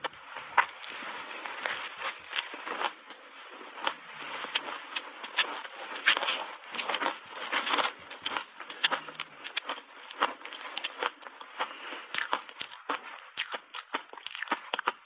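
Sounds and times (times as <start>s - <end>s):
chewing crunchy ice: 0.6s - 15.0s.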